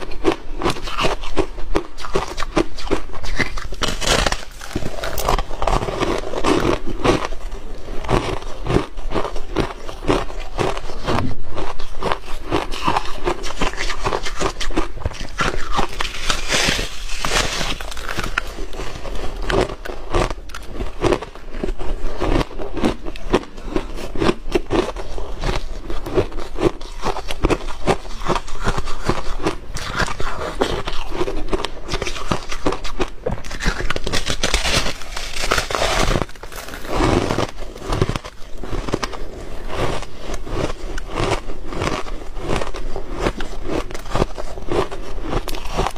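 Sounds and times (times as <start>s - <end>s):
chewing ice crunching: 0.0s - 45.9s.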